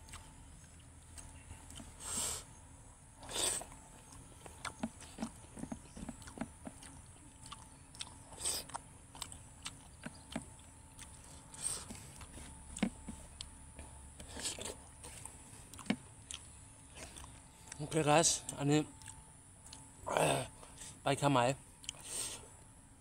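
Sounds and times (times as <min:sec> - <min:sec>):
person chewing food: 0:00.0 - 0:02.6, 0:03.2 - 0:21.0, 0:21.7 - 0:22.7.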